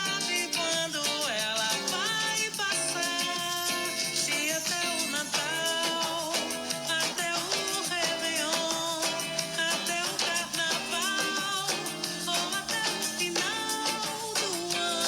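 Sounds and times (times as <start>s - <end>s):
song with steady beat: 0.0s - 15.0s.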